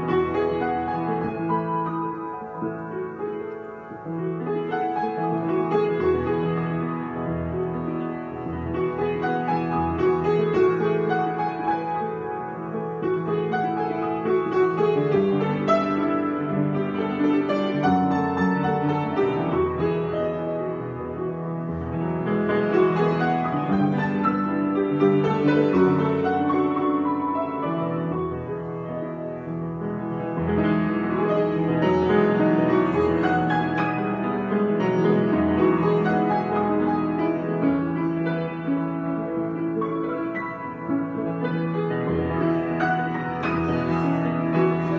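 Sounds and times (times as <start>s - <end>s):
solo piano: 0.0s - 44.9s.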